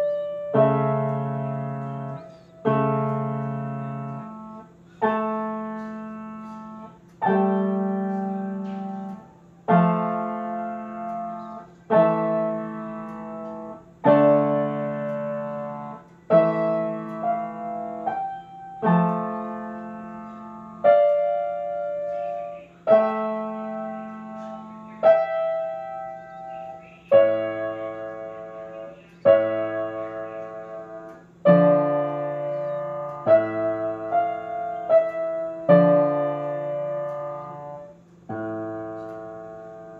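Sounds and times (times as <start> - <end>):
grand piano chords: 0.0 - 39.9.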